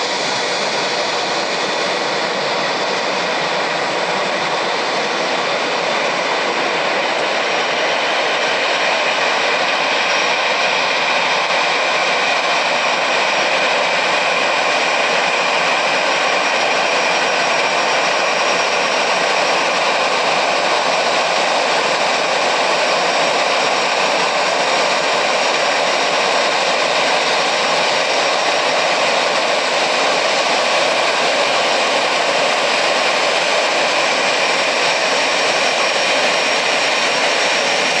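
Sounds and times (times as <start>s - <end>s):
jet engines idling: 0.0s - 38.0s.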